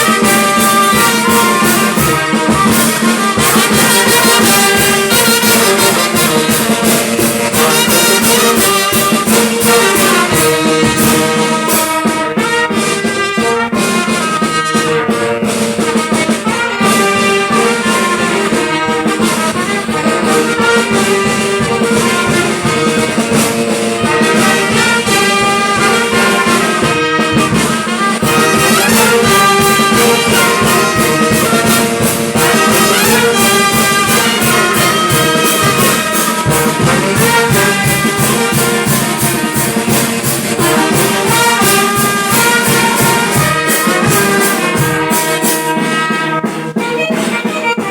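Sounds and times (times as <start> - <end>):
steady percussion beat: 0.0 - 47.9
trumpets and trombones: 0.0 - 47.9.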